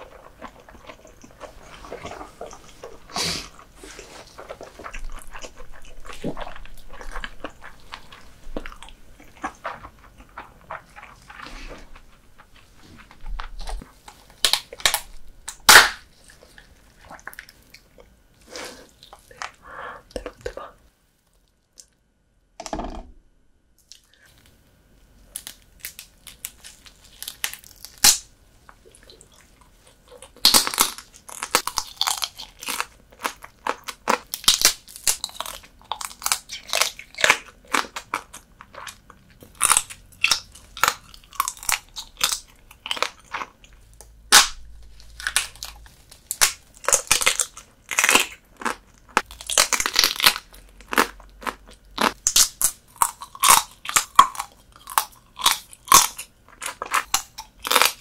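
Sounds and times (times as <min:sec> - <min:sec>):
crunchy chewing: 0:00.0 - 0:20.7, 0:25.3 - 0:58.0.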